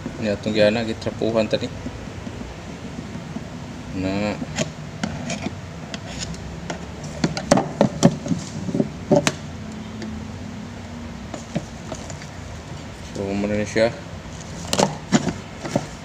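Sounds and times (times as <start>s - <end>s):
metal fan parts clicking and knocking: 0.0s - 10.2s, 11.2s - 13.5s, 14.4s - 16.0s.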